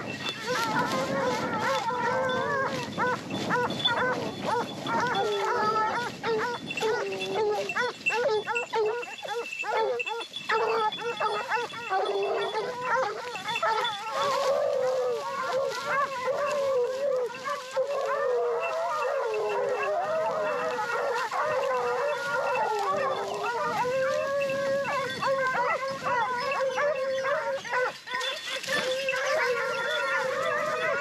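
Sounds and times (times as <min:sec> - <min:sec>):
hounds baying: 0:00.0 - 0:31.0.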